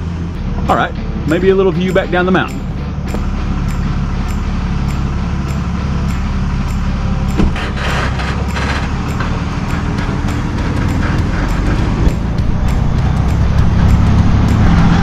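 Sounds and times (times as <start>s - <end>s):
heavy truck engine: 0.0s - 15.0s
road noise: 0.0s - 15.0s.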